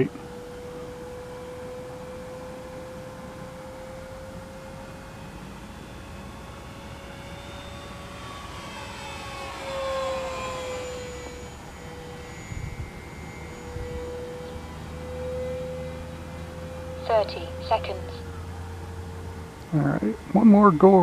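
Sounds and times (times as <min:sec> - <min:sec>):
model airplane motor whine: 0:00.0 - 0:21.0.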